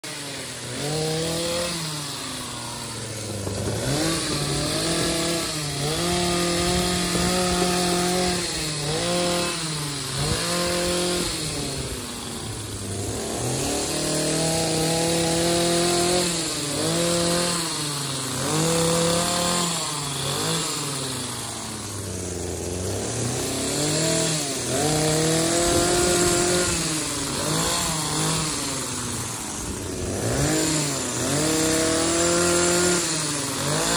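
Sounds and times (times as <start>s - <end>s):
hedge trimmer engine revving: 0.0s - 33.9s.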